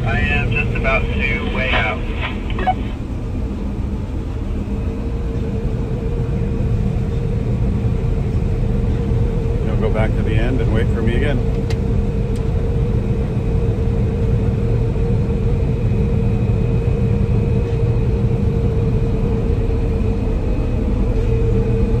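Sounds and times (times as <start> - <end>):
combine harvester rumbling: 0.0 - 22.0.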